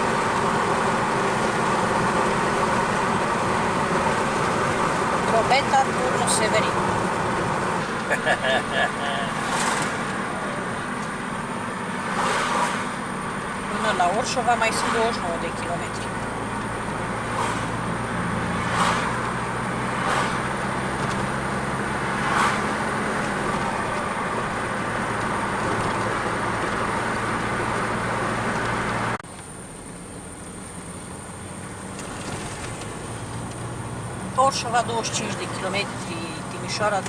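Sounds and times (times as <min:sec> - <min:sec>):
car engine hum: 0:00.0 - 0:37.0
tyre noise on road: 0:00.0 - 0:37.0.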